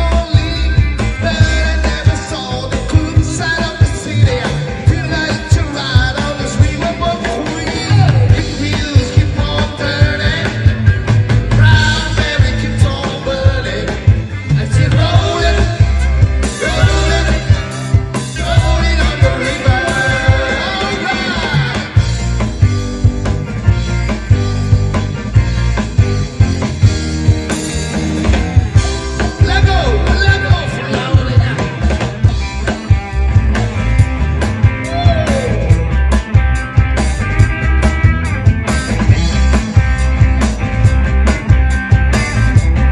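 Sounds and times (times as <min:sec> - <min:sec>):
bass: 0:00.0 - 0:42.9
rock band playing: 0:00.0 - 0:42.9
steady drum beat: 0:00.0 - 0:42.9.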